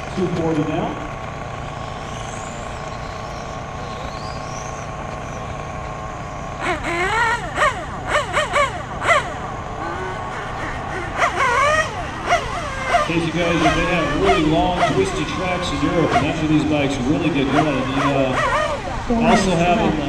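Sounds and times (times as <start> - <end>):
electric motorcycle motor whines: 0.0 - 20.0
voices talking: 0.0 - 20.0.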